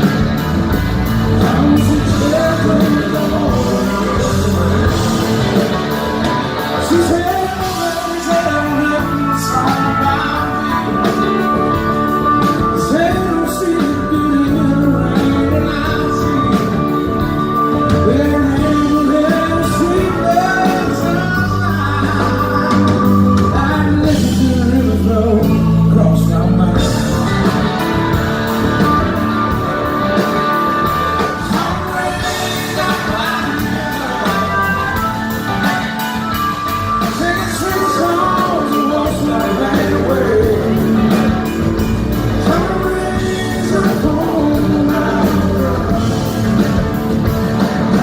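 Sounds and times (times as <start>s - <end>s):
blues-rock band playing live: 0.0s - 48.0s
drums keeping a beat: 0.0s - 48.0s
lead guitar lines: 0.0s - 48.0s.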